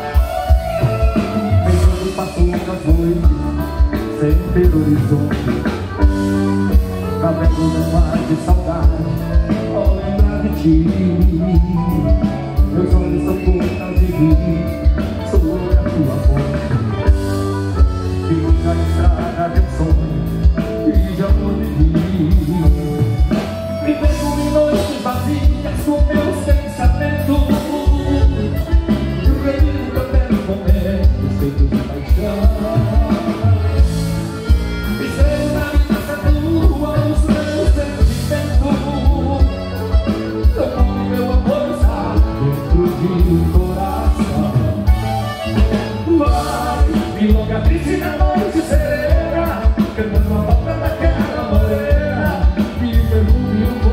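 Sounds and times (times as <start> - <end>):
live band playing dance music: 0.0 - 53.9
person singing: 0.0 - 53.9.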